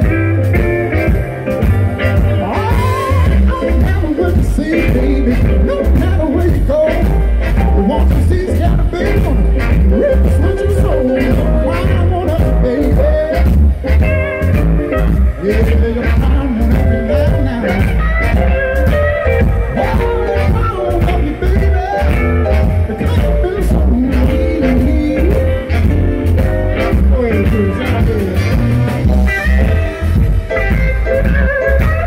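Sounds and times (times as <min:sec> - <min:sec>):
bass guitar: 0:00.0 - 0:32.0
drum kit beat: 0:00.0 - 0:32.0
electric guitars: 0:00.0 - 0:32.0
man singing: 0:02.3 - 0:30.2.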